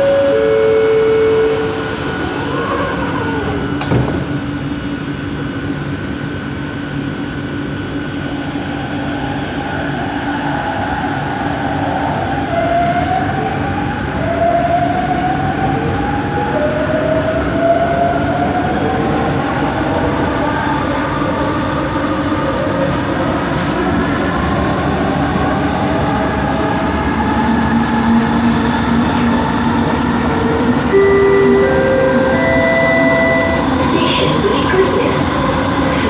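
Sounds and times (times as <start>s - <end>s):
train motor hum and whine: 0.0s - 36.0s.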